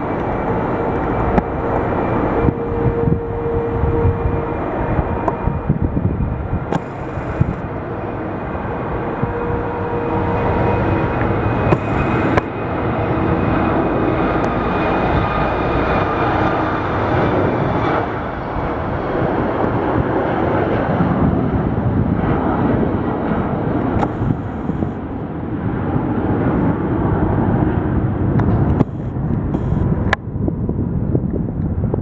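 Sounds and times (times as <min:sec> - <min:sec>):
jet engine rumble and whine: 0:00.0 - 0:32.0
wind on microphone: 0:00.0 - 0:32.0.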